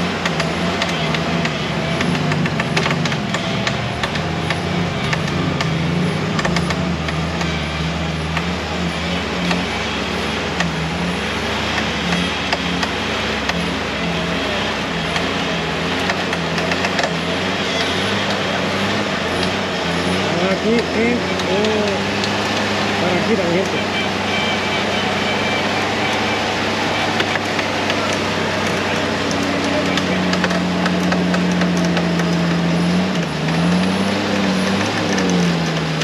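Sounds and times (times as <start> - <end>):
engine running under load: 0.0 - 36.0
scattered clicks and knocks: 0.0 - 36.0
tyres crawling through mud: 0.0 - 36.0.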